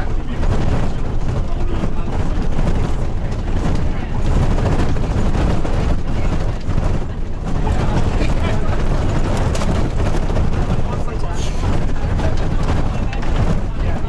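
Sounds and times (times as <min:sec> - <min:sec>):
vehicle rumble from inside cabin: 0:00.0 - 0:14.0.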